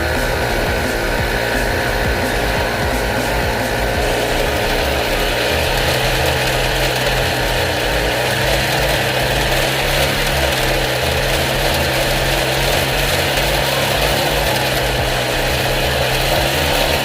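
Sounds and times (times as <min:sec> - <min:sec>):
brush-cutter engine running: 0:00.0 - 0:17.0.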